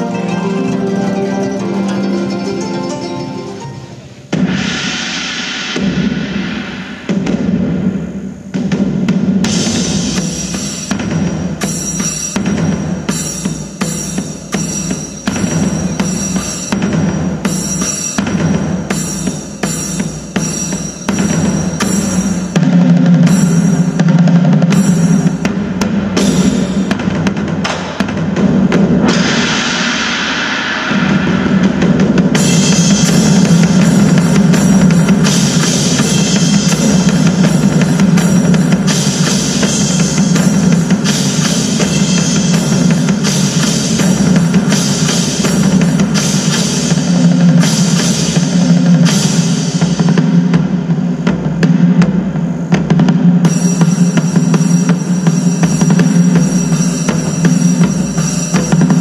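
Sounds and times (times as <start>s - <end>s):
hand cymbals crashing: 0.0s - 50.8s, 53.3s - 59.0s
large drum beaten fast: 4.2s - 59.0s.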